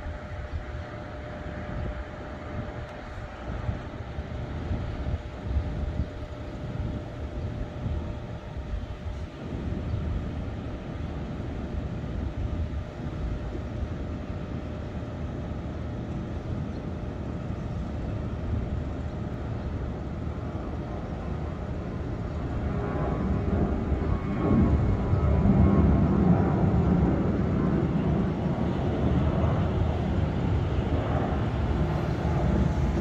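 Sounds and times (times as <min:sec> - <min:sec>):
jet airliner rumble: 0:00.0 - 0:33.0.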